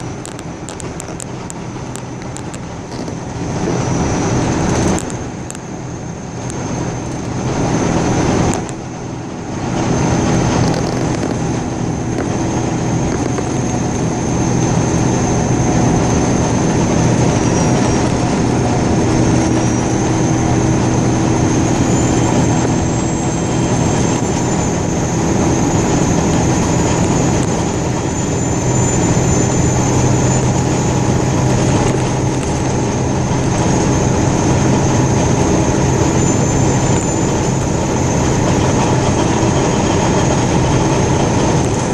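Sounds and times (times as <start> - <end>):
faint high whine: 0.0 - 41.9
road noise: 0.0 - 41.9
vehicle engine hum: 0.0 - 41.9.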